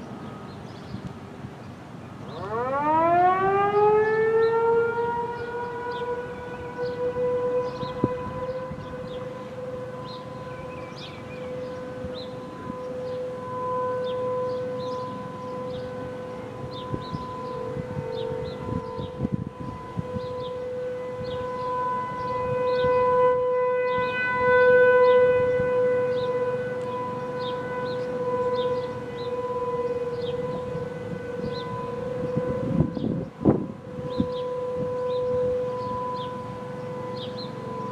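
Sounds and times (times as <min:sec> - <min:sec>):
rotating warning siren: 0:00.0 - 0:37.9.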